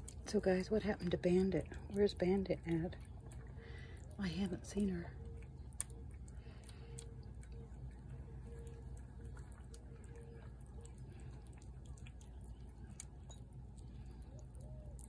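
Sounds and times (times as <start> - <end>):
cat chewing and licking: 0.0 - 15.0
low steady rumble: 0.0 - 15.0.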